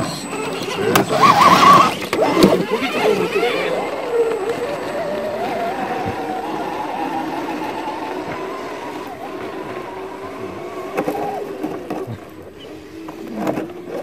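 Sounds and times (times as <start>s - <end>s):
electric motor and gearbox whining: 0.0s - 14.0s.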